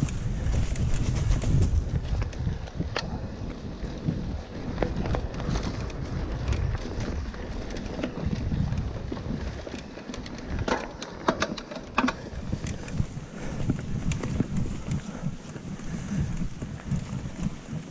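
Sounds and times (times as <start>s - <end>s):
bike rattling over bumps: 0.0s - 17.9s
bike rolling on dirt trail: 0.0s - 17.9s
wind buffeting microphone: 0.0s - 17.9s.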